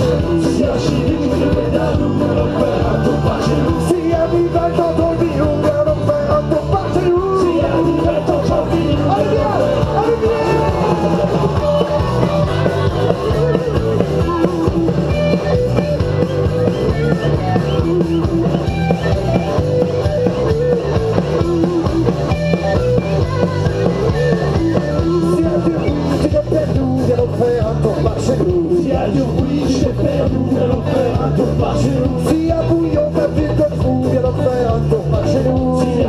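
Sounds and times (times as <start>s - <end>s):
accordion: 0.0s - 36.0s
drums: 0.0s - 36.0s
electric guitar: 0.0s - 36.0s
live band playing upbeat music: 0.0s - 36.0s
voices singing: 0.0s - 36.0s.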